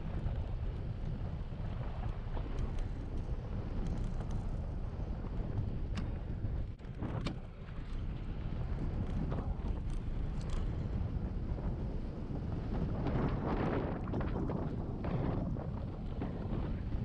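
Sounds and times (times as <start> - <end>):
low rumble of bike ride: 0.0 - 17.0
wind buffeting microphone: 0.0 - 17.0.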